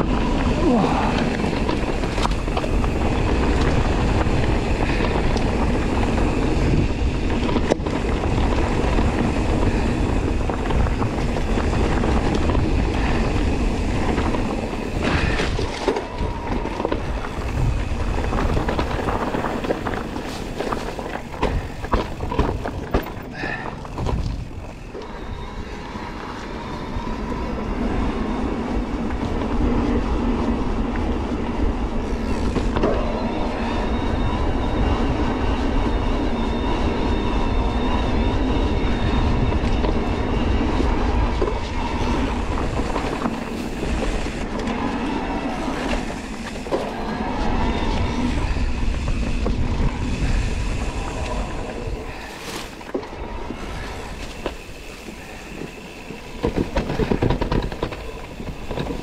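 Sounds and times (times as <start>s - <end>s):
sharp clicks over bumps: 0.0s - 27.8s, 28.5s - 33.7s, 38.9s - 59.0s
bike rumbling over dirt trail: 0.0s - 59.0s.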